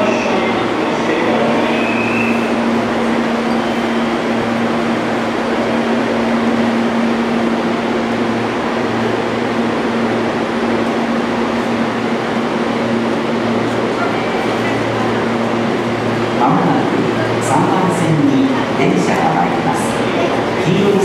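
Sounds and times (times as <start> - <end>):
electric train hum: 0.0 - 21.0
station machinery noise: 0.0 - 21.0.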